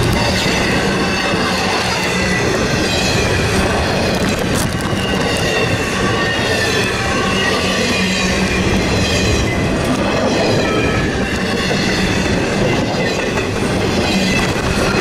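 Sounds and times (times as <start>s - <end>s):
freight train rumbling past: 0.0s - 15.0s
wheels squealing: 0.0s - 15.0s.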